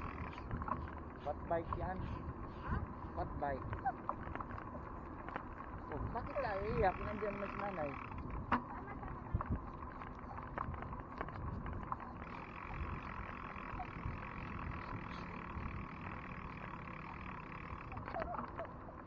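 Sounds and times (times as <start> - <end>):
wind and road noise from bicycle: 0.0 - 19.0.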